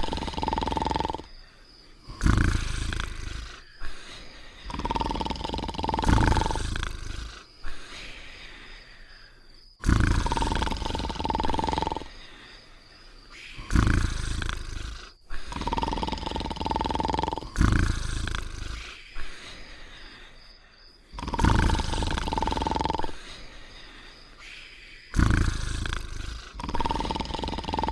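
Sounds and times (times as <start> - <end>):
cartoon snoring: 0.0 - 8.6, 9.8 - 12.6, 13.4 - 20.4, 21.1 - 24.2, 25.1 - 27.9.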